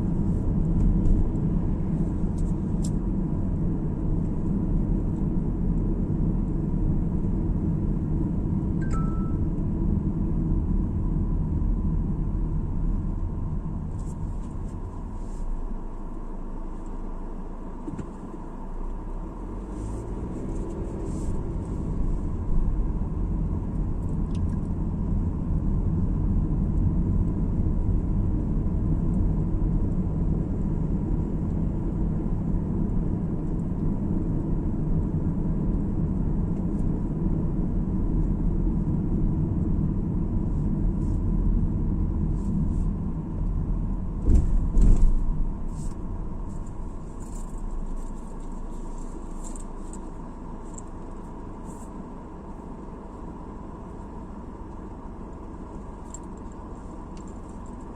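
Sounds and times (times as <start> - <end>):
road and tyre noise: 0.0 - 57.9.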